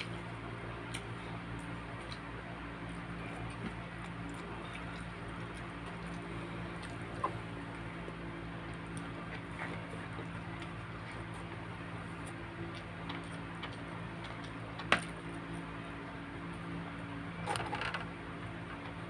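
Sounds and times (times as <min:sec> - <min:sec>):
man chewing food: 0:00.0 - 0:15.8
steady low hum: 0:00.0 - 0:19.0.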